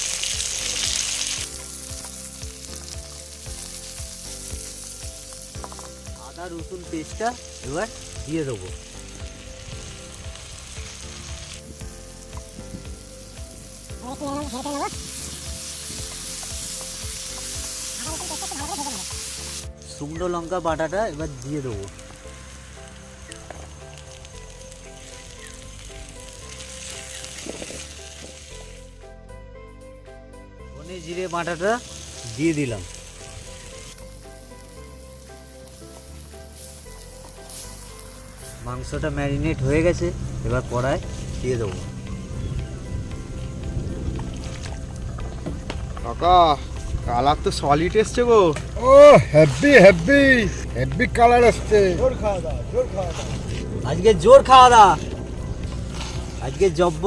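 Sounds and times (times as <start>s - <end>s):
onions sizzling in hot oil: 0.0s - 29.0s, 30.8s - 57.0s
faint background music: 0.0s - 57.0s.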